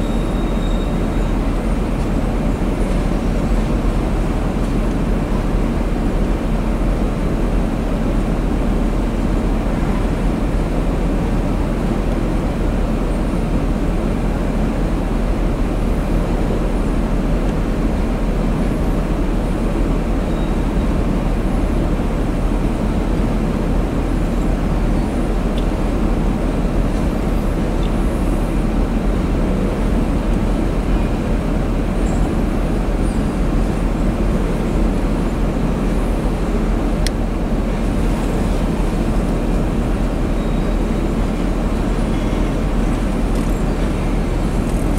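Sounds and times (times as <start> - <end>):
freight cars rumbling on rails: 0.0 - 44.9.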